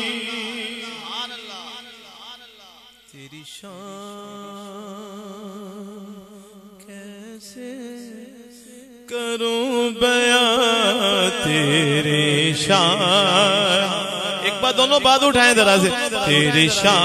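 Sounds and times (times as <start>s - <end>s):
man chanting through a microphone: 0.0s - 17.0s.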